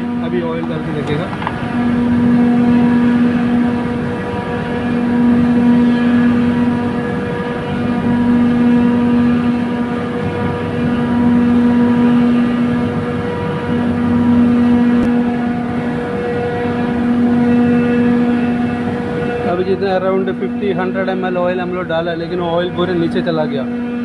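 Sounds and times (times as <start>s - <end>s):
machinery hum with low drone: 0.0s - 24.0s.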